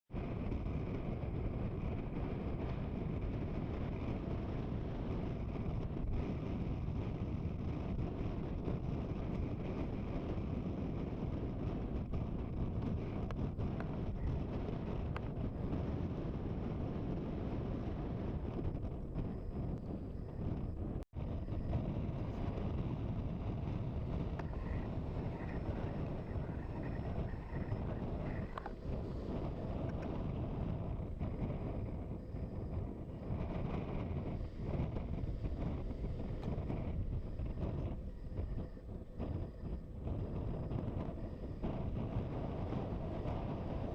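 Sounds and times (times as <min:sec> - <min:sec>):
wind buffeting microphone: 0:00.1 - 0:43.9.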